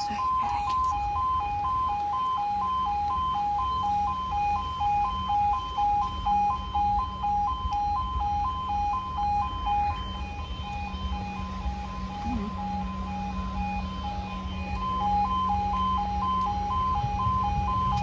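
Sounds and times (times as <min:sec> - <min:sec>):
two-tone level crossing alarm: 0:00.0 - 0:18.0.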